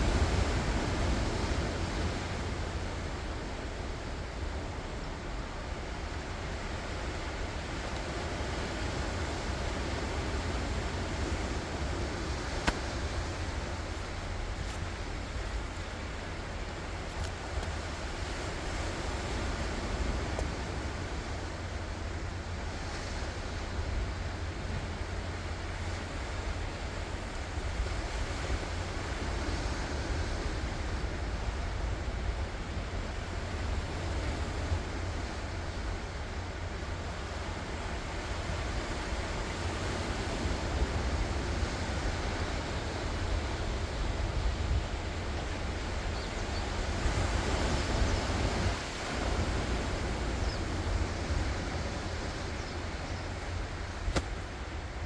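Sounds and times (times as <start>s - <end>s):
ocean surf washing ashore: 0.0s - 55.0s.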